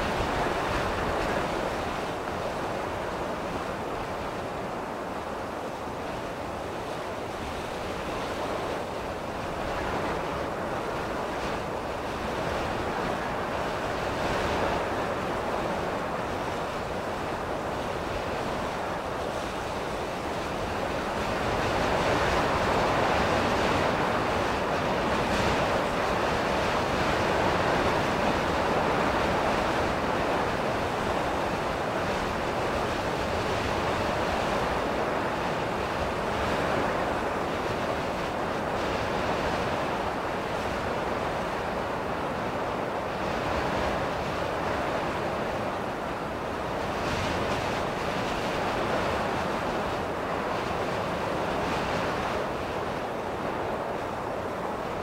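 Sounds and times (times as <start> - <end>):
strong gusty wind: 0.0 - 55.0.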